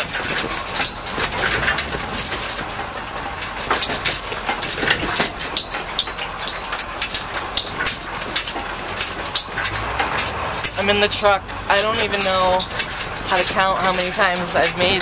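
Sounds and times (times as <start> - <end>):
rattles and knocks over bumps: 0.0 - 15.0
truck engine running: 0.0 - 15.0.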